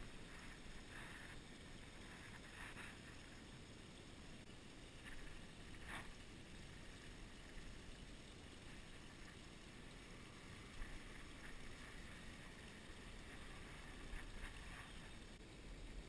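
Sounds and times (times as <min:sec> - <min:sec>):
faint ticks: 0:00.0 - 0:15.4
low rumble and hiss: 0:00.0 - 0:16.0.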